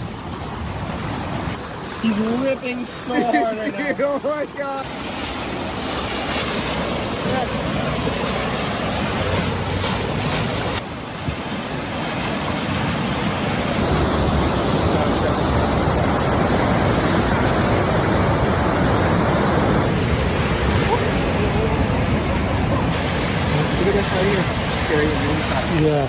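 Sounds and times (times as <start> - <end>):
ocean surf breaking: 0.0 - 26.0.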